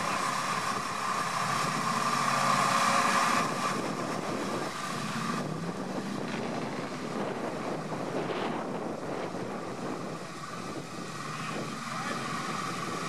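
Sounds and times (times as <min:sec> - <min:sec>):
truck engine running under load: 0:00.0 - 0:13.0.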